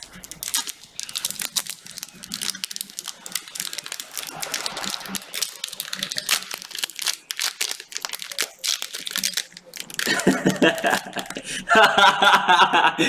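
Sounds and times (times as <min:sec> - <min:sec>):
wrapper crinkling: 0:00.0 - 0:11.6.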